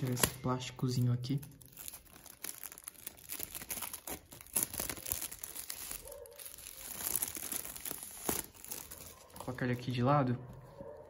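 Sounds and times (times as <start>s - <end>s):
plastic film crinkling: 0.0s - 10.1s.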